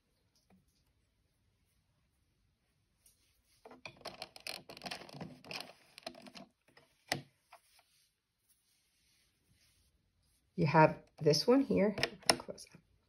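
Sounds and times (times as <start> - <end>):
yarn and fingers rustling: 0.0 - 11.6.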